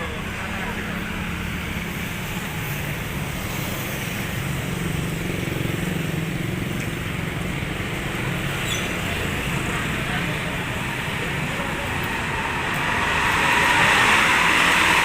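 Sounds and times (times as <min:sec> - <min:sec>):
passenger train rumble and hum: 0:00.0 - 0:15.0.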